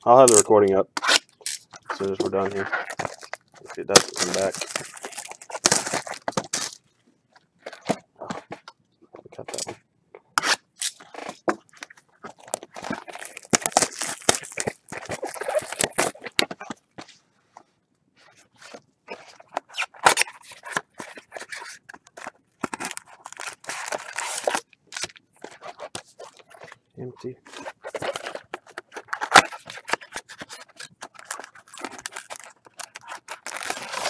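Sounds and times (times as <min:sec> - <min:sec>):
cardboard and wrappers tearing: 0:00.1 - 0:06.8, 0:10.4 - 0:16.8, 0:18.6 - 0:26.8, 0:27.5 - 0:34.0.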